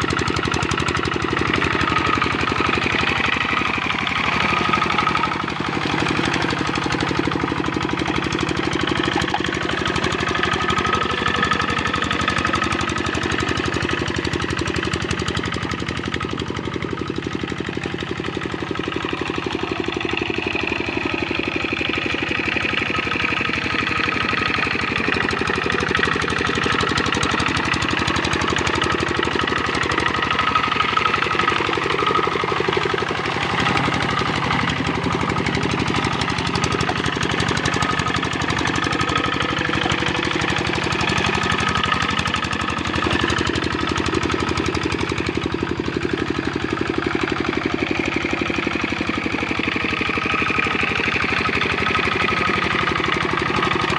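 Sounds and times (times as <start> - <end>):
diesel engine knocking: 0.0 - 53.9.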